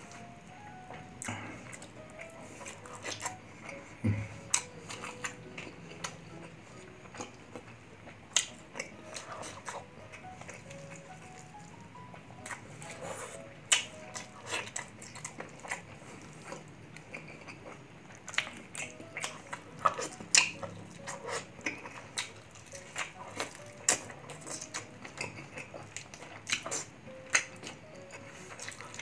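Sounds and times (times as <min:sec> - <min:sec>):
man chewing food: 0:00.0 - 0:29.0.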